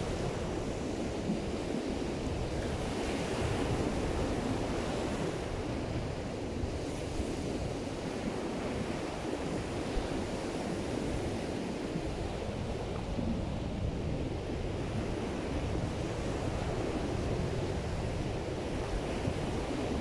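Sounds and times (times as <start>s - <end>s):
ocean surf breaking on beach: 0.0s - 20.0s
wind buffeting microphone: 0.0s - 20.0s.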